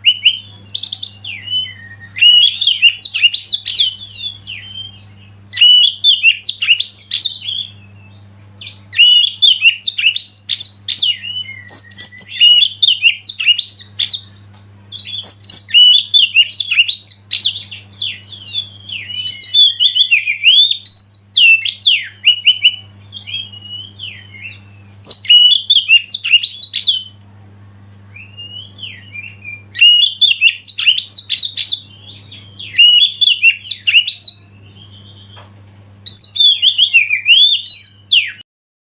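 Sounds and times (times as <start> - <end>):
bird singing whistled phrases: 0.0 - 27.1, 28.1 - 38.4
steady low hum: 0.0 - 38.2.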